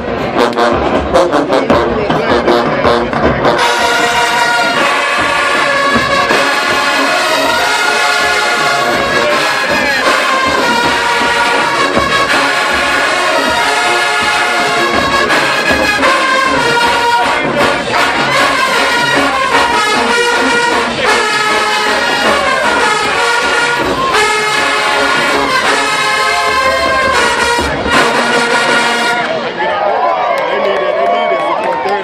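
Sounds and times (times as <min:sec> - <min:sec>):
brass section sustained chords: 0:00.0 - 0:29.6
marching band playing loudly: 0:00.0 - 0:29.6.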